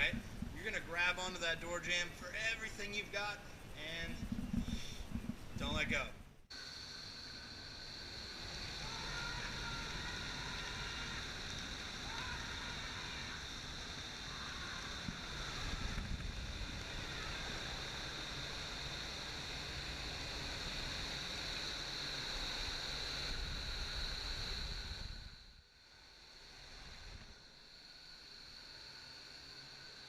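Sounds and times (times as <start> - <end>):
wind tunnel airflow rushing: 0.0 - 1.2, 2.8 - 29.9
high whine: 0.0 - 30.0.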